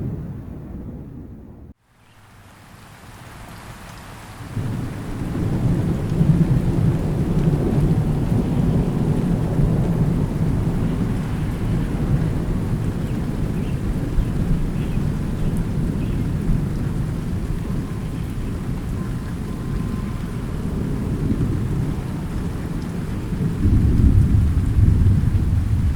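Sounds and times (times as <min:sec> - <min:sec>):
rolling thunder: 0:00.0 - 0:01.8, 0:04.4 - 0:25.9
steady rain: 0:01.7 - 0:25.9.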